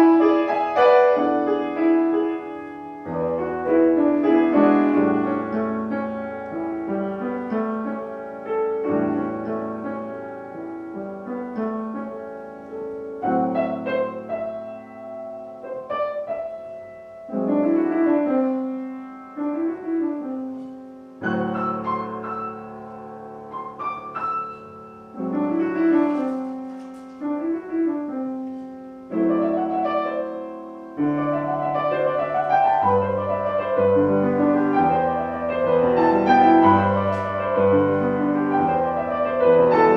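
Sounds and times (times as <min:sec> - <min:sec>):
classical piano music: 0:00.0 - 0:39.9.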